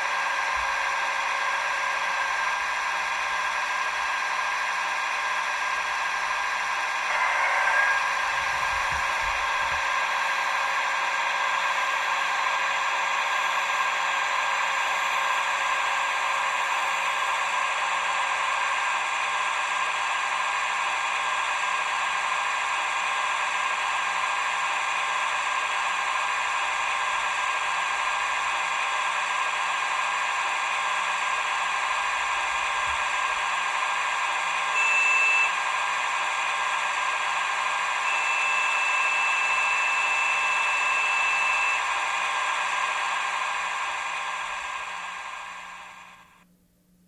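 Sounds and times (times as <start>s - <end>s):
model crane mechanical whir: 0.0s - 46.4s.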